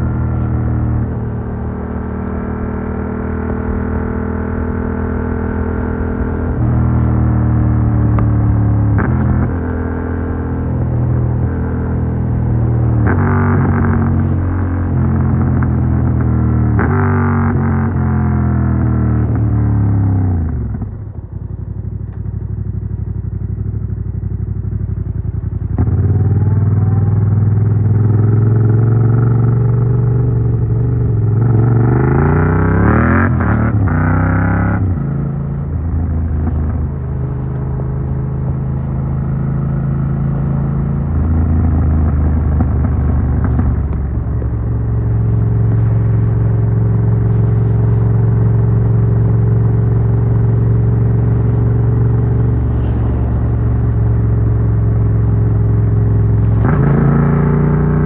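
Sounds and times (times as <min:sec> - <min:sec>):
motorcycle engine revving: 0:00.0 - 0:21.0, 0:24.3 - 0:58.0.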